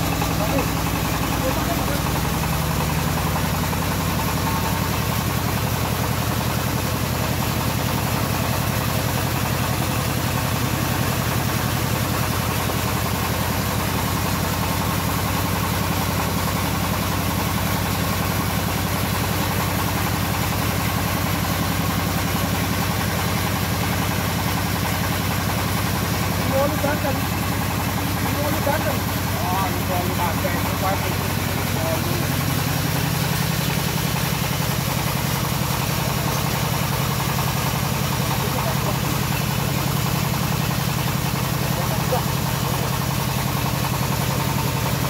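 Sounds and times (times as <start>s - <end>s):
engine running sawmill: 0.0s - 45.0s.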